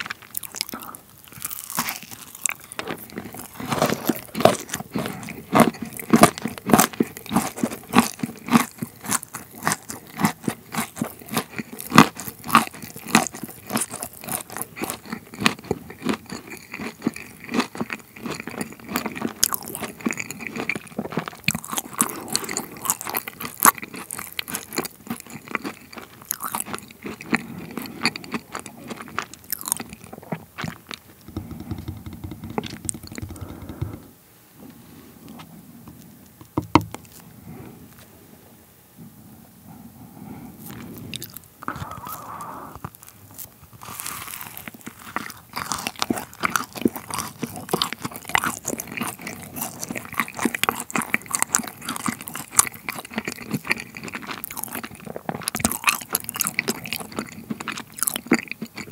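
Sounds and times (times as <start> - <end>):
crunchy chewing with crackles: 0.0 - 34.1, 35.2 - 38.2, 39.8 - 58.9.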